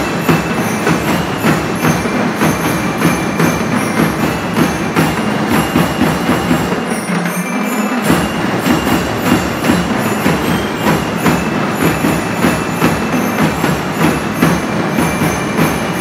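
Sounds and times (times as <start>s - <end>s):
marching band drums: 0.0s - 16.0s.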